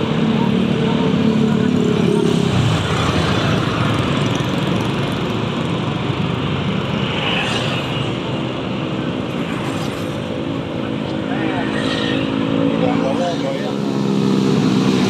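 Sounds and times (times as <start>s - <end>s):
motorcycle traffic: 0.0s - 15.0s
tyre noise on road: 0.0s - 15.0s
vehicle engine: 0.0s - 15.0s.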